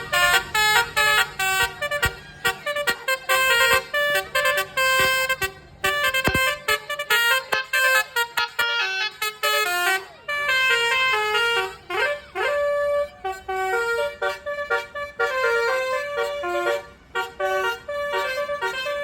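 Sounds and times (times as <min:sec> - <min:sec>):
multi-tone musical bus horn: 0:00.0 - 0:19.0.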